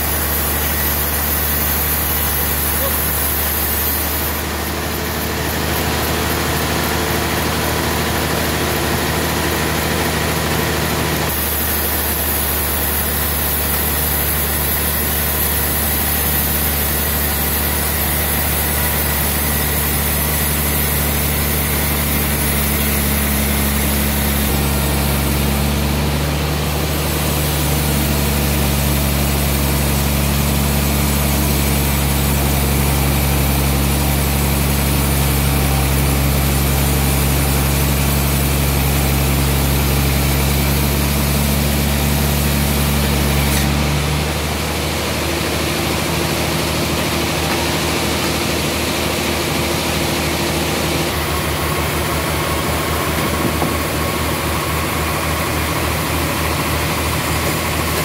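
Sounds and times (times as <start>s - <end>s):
band sawmill humming: 0.0s - 58.0s.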